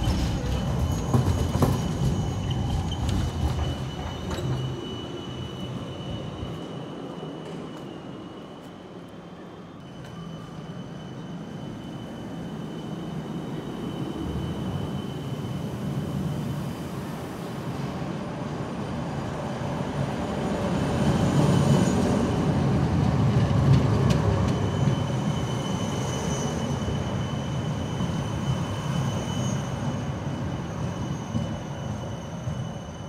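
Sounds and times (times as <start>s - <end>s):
tram passing on rails: 0.0s - 33.0s.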